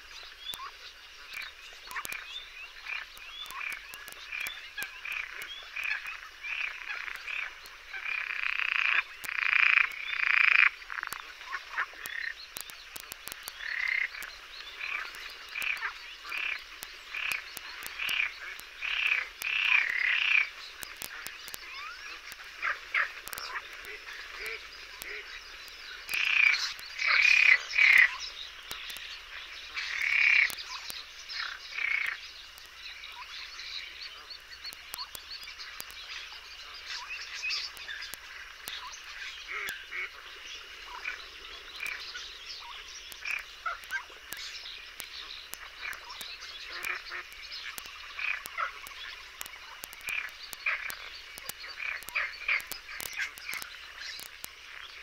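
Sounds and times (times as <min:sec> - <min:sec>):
frogs croaking: 0:00.0 - 0:55.0.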